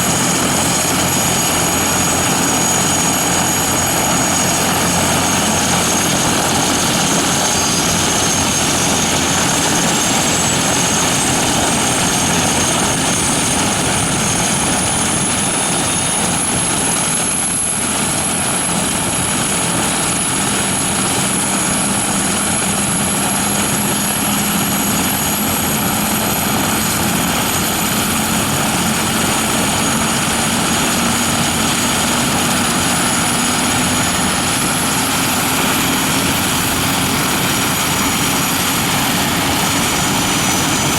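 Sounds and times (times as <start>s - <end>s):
helicopter engines and rotor running: 0.0s - 40.9s
high turbine whine rising: 0.0s - 40.9s.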